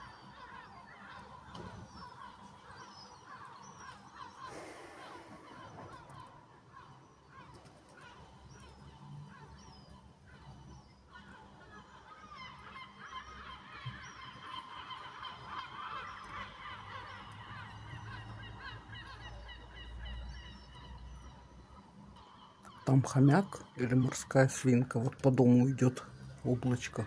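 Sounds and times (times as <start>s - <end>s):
gulls calling: 0.0s - 27.0s.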